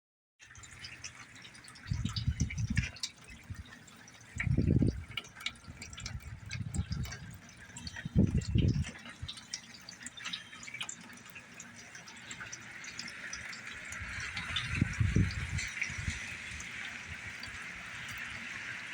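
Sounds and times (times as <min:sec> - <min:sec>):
rain drops ticking: 0:00.4 - 0:18.9.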